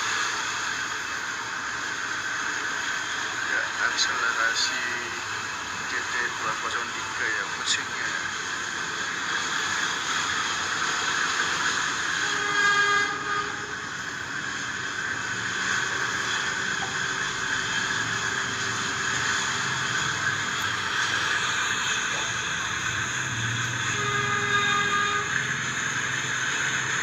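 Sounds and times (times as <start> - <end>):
diesel locomotive engine: 0.0 - 27.0.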